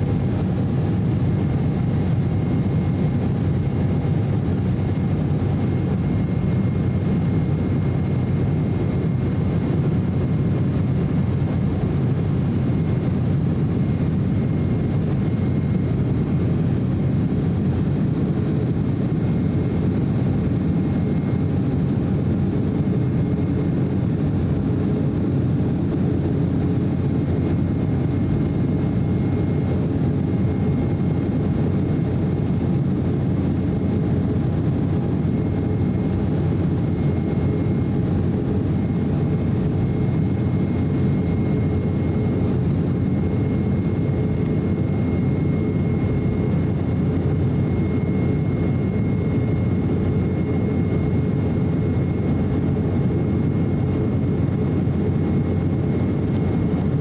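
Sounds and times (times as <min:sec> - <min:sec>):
jet airliner cabin rumble: 0:00.0 - 0:57.0.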